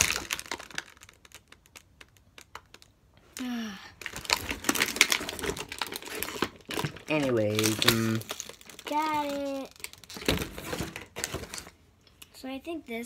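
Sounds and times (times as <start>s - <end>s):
plastic packaging clicks and rustling: 0.0s - 11.8s.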